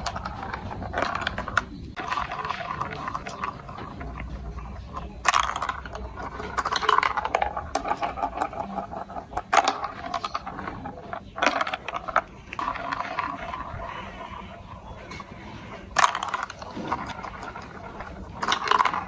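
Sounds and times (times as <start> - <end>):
marbles rattling on plastic run: 0.0 - 19.0.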